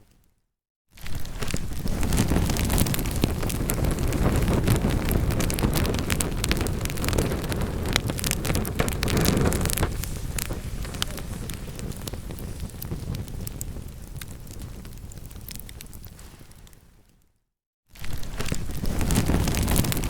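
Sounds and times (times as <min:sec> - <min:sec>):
rush of burning flames: 0:01.0 - 0:17.2, 0:18.0 - 0:20.0
wood fire crackling and popping: 0:01.0 - 0:17.2, 0:18.0 - 0:20.0.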